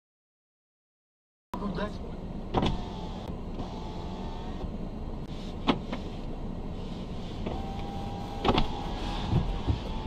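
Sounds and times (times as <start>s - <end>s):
car engine and cabin hum: 1.6s - 10.0s.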